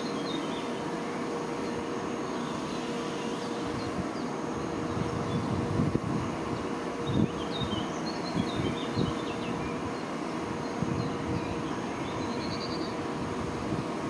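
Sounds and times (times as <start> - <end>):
small birds chirping: 0.0 - 5.6, 6.5 - 13.1
faint hum: 0.0 - 14.0.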